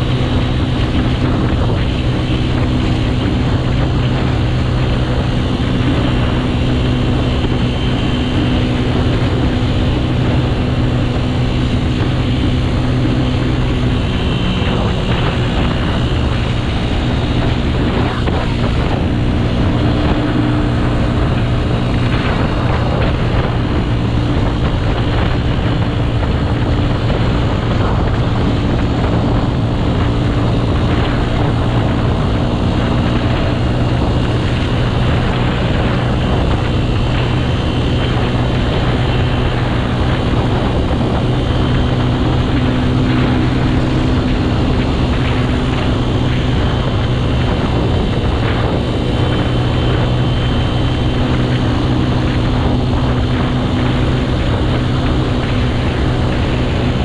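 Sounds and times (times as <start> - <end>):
motorcycle engine cruising: 0.0 - 57.0
riding noise rush: 0.0 - 57.0.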